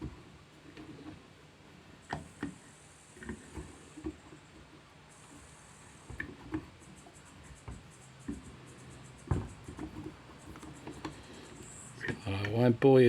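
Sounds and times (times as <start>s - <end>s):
small clicks and scrapes: 0.0s - 12.6s.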